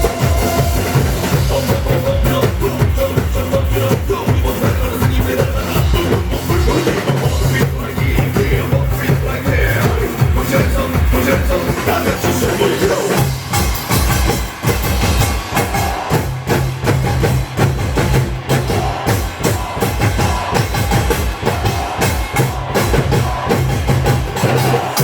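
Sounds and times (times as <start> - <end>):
rapid drumming: 0.0 - 25.0
up-tempo backing music: 0.0 - 25.0.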